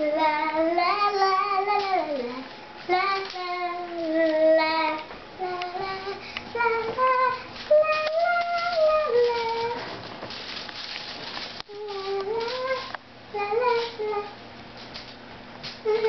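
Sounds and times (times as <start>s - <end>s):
girl singing wordless tune: 0.0s - 10.0s, 11.6s - 14.4s, 15.8s - 16.0s.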